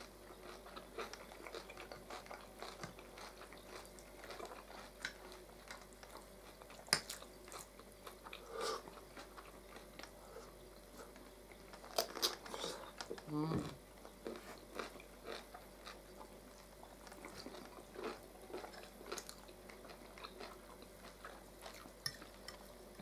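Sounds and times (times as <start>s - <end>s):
chewing and mouth sounds: 0.3s - 13.2s, 14.1s - 22.8s.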